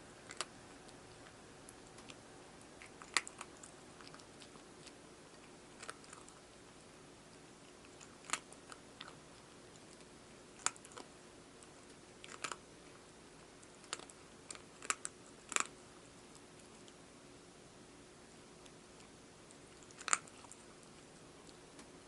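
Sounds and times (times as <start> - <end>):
cat crunching dry food: 0.2 - 17.0, 18.6 - 21.7.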